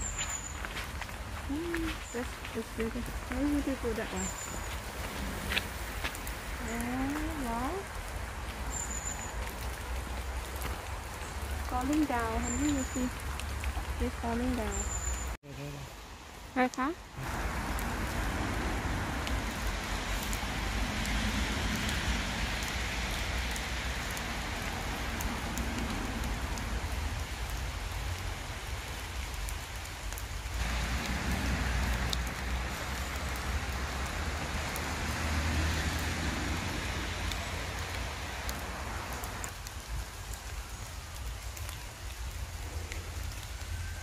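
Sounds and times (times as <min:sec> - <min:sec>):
rain falling in woodland: 0:00.0 - 0:44.0.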